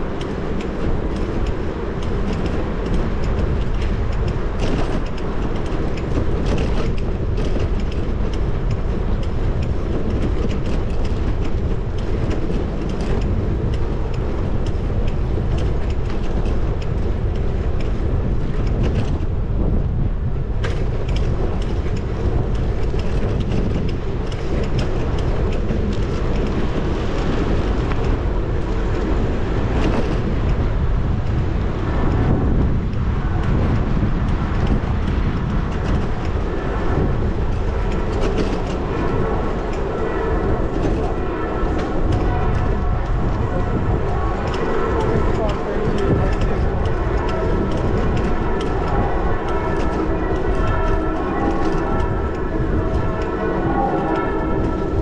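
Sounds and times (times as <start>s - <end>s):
bicycle rattles and clicks: 0.0s - 53.4s
passing traffic: 0.0s - 55.0s
road rumble: 0.0s - 55.0s
wind on microphone: 0.0s - 55.0s.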